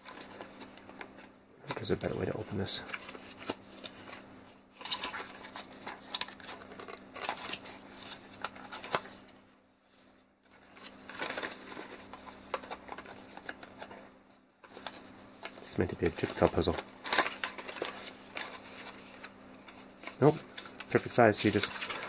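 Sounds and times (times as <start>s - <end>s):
foam packaging rustling and scraping: 0.0s - 22.0s.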